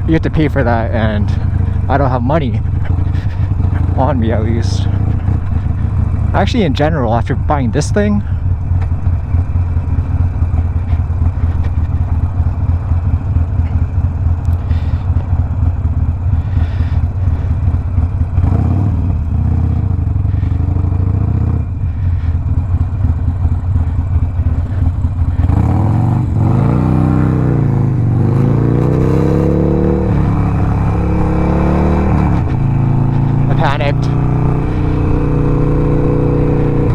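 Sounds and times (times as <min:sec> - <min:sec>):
motorcycle engine rumbling: 0:00.0 - 0:36.9.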